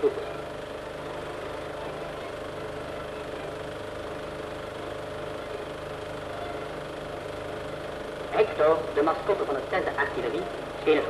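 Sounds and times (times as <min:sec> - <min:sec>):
mechanical hum with rattle: 0:00.0 - 0:11.0.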